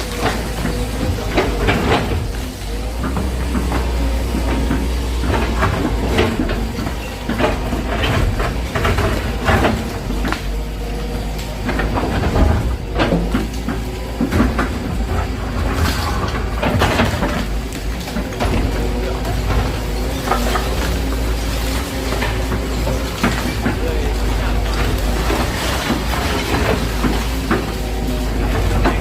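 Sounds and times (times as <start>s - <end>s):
demolition debris clattering: 0.0s - 29.0s
excavator diesel engine running: 0.0s - 29.0s.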